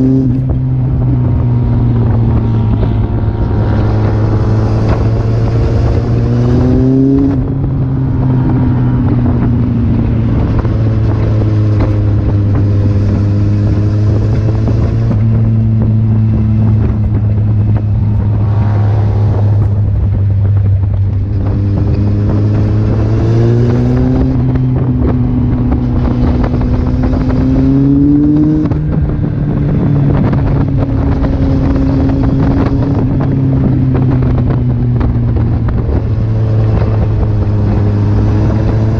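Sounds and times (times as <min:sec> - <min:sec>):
motorcycle engine revving: 0:00.0 - 0:38.9
wind on microphone: 0:00.0 - 0:38.9.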